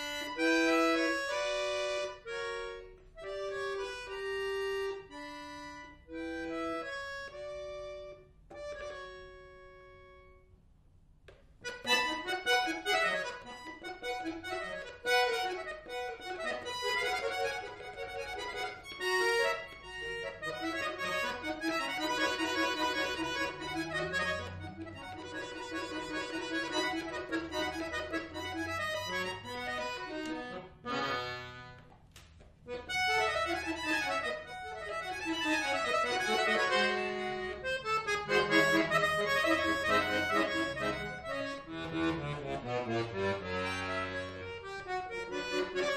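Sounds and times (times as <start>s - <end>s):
accordion playing classical piece: 0.0s - 10.7s, 11.4s - 45.9s.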